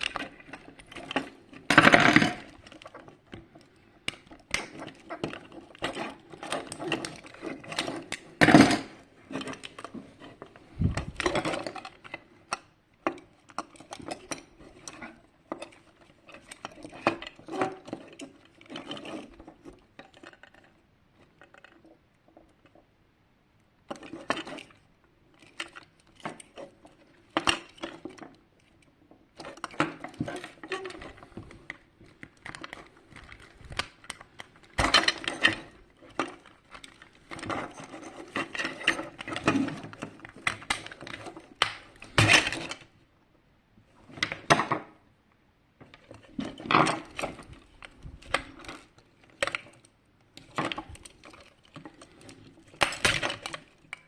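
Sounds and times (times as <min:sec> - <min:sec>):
plastic and metal parts clattering: 0:00.0 - 0:22.9, 0:23.8 - 0:43.0, 0:44.0 - 0:45.0, 0:45.8 - 0:54.0.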